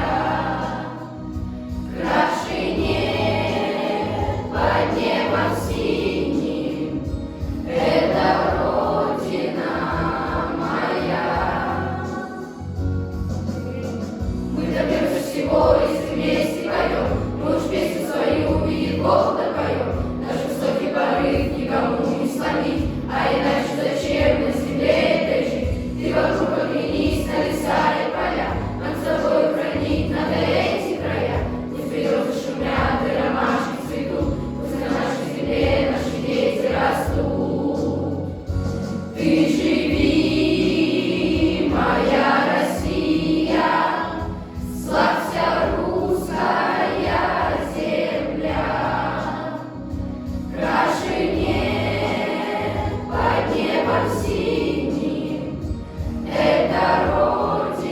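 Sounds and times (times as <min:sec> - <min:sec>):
children's choir singing: 0:00.0 - 0:57.9.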